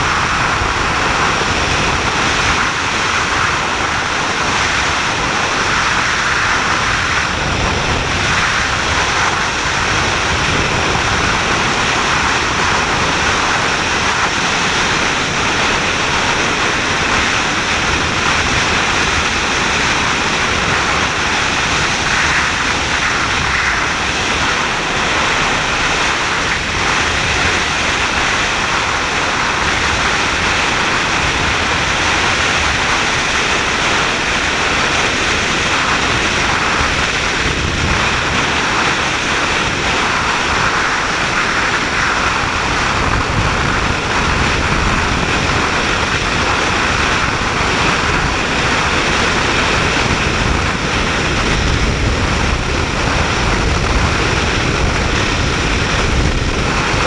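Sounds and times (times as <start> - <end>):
vehicle road noise on gravel: 0.0 - 57.0
wind buffeting microphone: 0.0 - 57.0.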